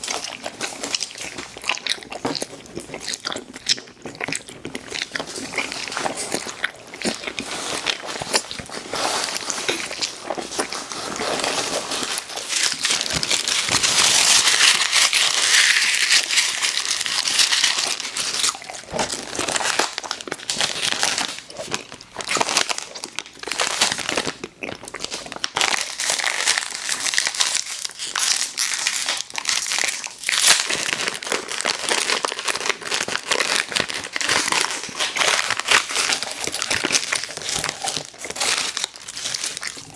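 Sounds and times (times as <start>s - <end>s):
plastic wrapper crinkling: 0.0s - 39.9s.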